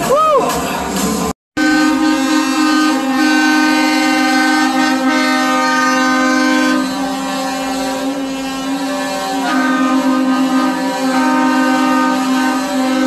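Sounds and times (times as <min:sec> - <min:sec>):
truck air horns blasting: 0:01.6 - 0:13.0.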